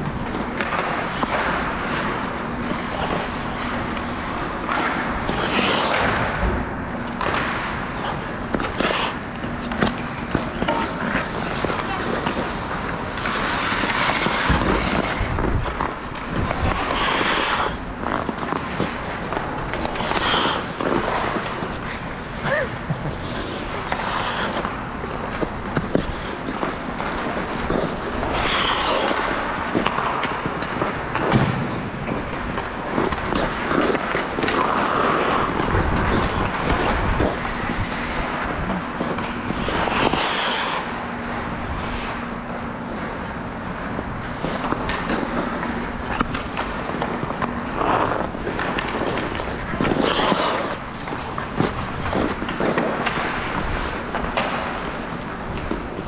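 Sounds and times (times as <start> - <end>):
scraping and gliding: 0.0 - 56.0
steady low hum: 0.0 - 56.0.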